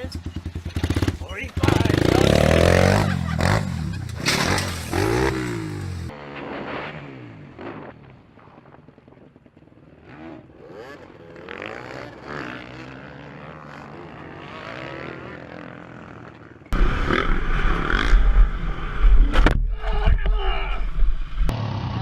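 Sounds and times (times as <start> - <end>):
dirt bike engines running: 0.0 - 22.0.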